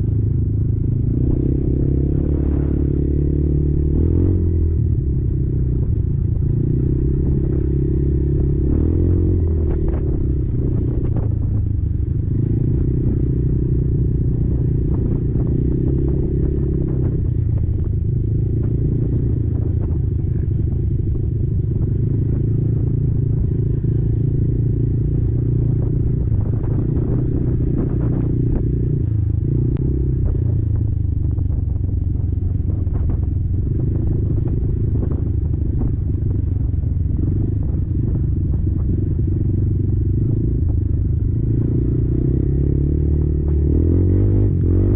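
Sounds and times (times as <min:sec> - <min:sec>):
quad bike engine running: 0:00.0 - 0:44.9.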